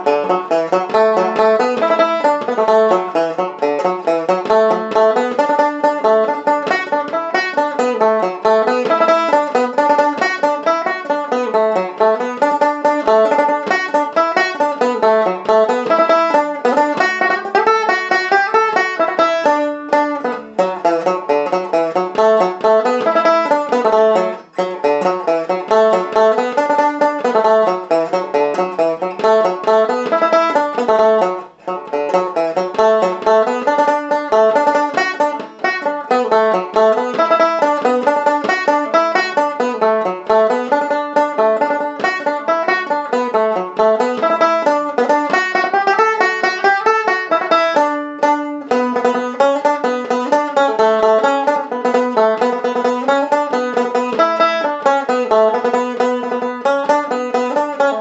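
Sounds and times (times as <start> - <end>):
banjo playing polka melody: 0.0 - 58.0.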